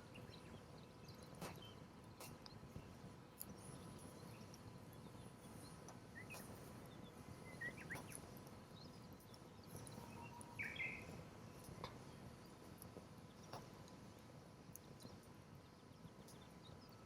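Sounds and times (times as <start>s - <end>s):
small birds chirping: 0.0s - 14.0s, 14.7s - 17.0s.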